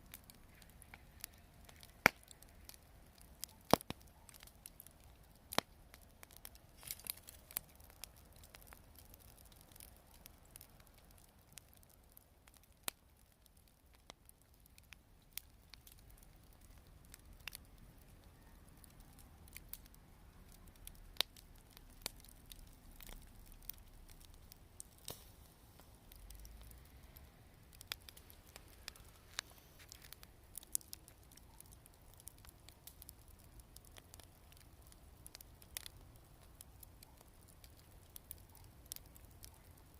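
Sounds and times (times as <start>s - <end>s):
campfire crackling: 0.0s - 39.9s
fire pops and snaps: 0.0s - 39.9s.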